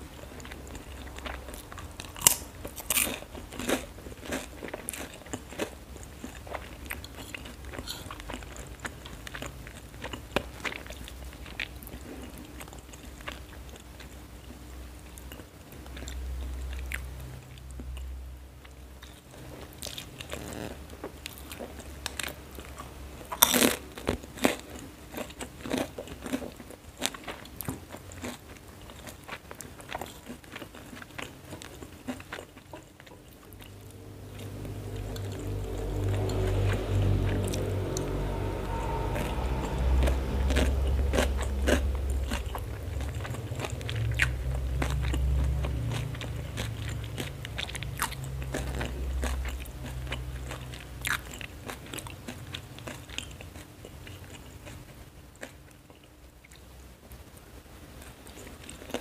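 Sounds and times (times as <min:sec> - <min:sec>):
person chewing crunchy food: 0:00.0 - 0:18.1, 0:19.0 - 0:56.6.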